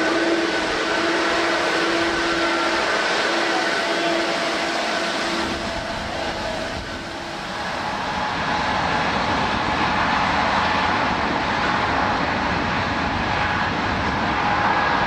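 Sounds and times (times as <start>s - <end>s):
faint engine whine: 0.0s - 15.0s
jet engines roaring: 0.0s - 15.0s.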